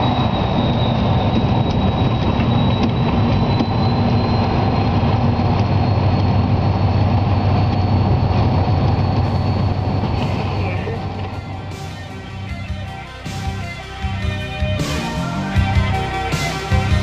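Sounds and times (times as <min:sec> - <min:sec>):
high whine: 0:00.0 - 0:17.0
locomotive engine drone: 0:00.0 - 0:17.0.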